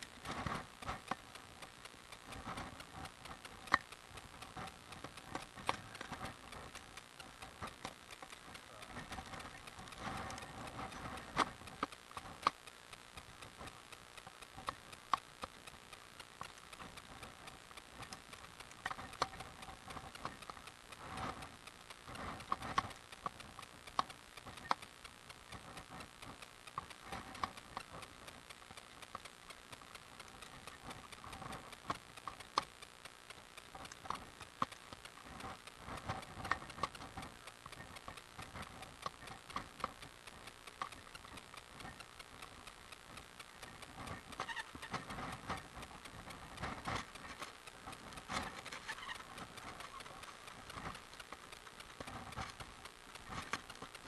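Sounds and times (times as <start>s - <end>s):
bicycle clicks and rattles: 0.0s - 54.0s.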